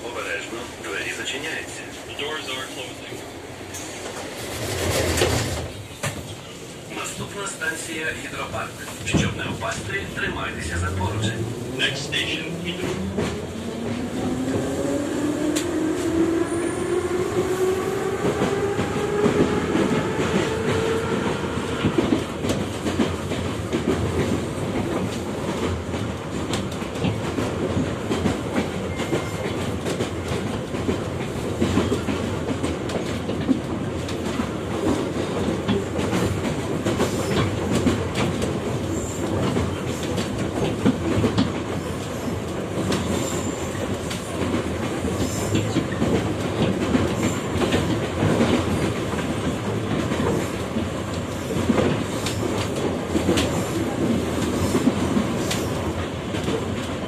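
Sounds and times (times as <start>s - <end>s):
clickety-clack of rail joints: 0.0s - 57.0s
train wheel rumble: 0.0s - 57.0s.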